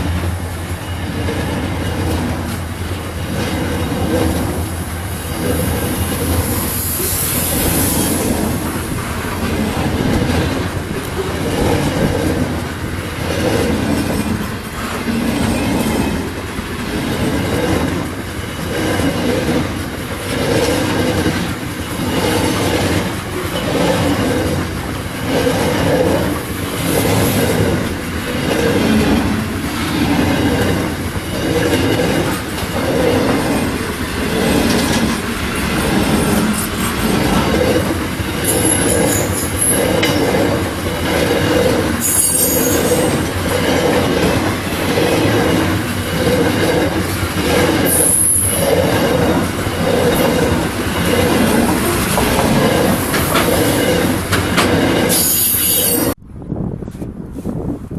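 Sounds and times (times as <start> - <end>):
train wheels clicking over rail joints: 0.0 - 56.2.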